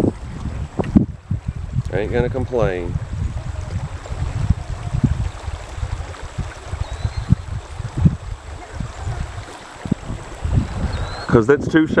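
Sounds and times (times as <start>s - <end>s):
river water running over gravel: 0.0s - 12.0s
wind buffeting microphone: 0.0s - 12.0s.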